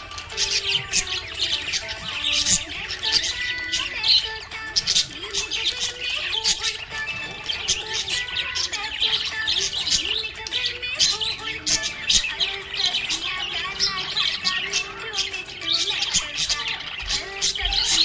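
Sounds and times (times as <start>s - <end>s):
parrots chirping: 0.0s - 18.0s.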